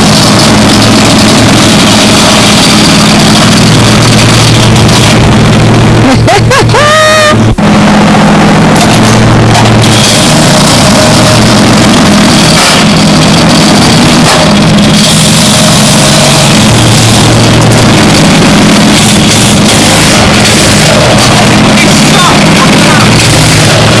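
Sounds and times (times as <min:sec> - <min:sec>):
tractor engine running hard: 0:00.0 - 0:24.0.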